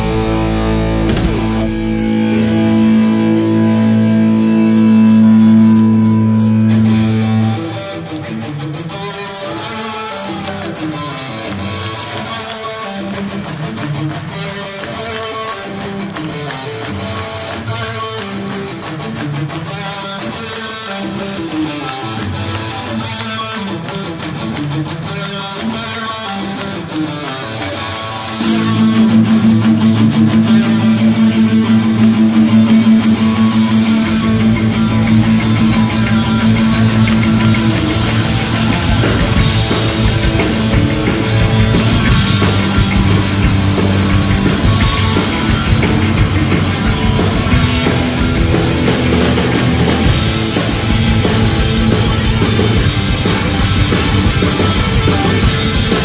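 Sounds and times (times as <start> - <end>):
guitar music: 0.0 - 56.0.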